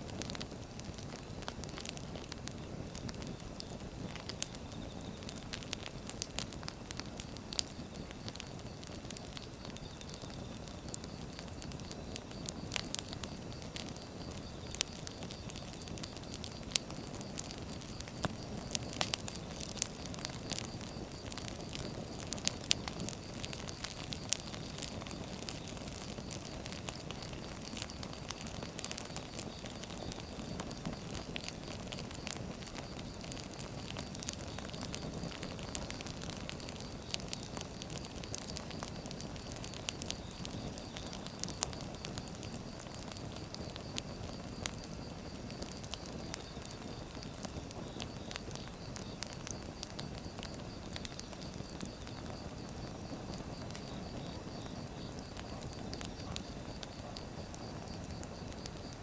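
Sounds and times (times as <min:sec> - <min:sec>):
firewood crackling and popping: 0:00.0 - 0:59.0.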